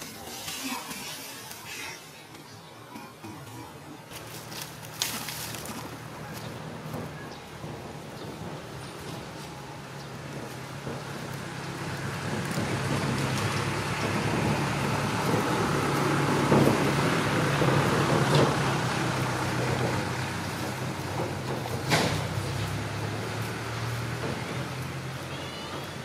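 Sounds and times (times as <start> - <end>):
low engine hum with rushing: 3.5 - 26.0.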